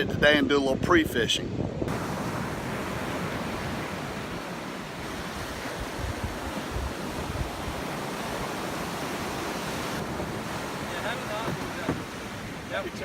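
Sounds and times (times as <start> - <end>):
wind buffeting microphone: 0.0 - 13.0
ocean surf breaking: 1.8 - 13.0.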